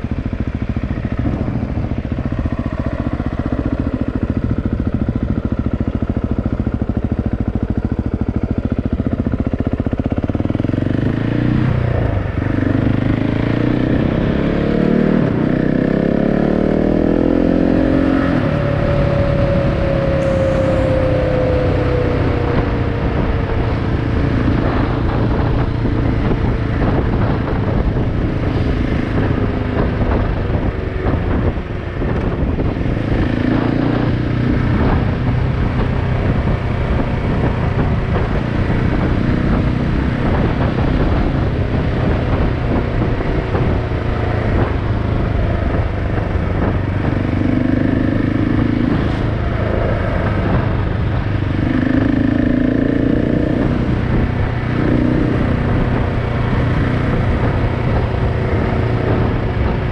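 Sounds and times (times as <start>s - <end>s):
motorcycle engine running: 0.0s - 59.9s
road noise: 0.0s - 59.9s
wind: 0.0s - 59.9s.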